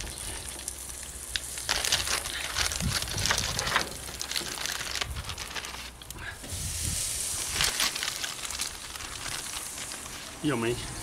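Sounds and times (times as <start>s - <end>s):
chicken sizzling on a grill: 0.0s - 5.2s, 5.8s - 11.0s
plastic bags crinkling: 0.0s - 6.2s, 7.2s - 10.8s.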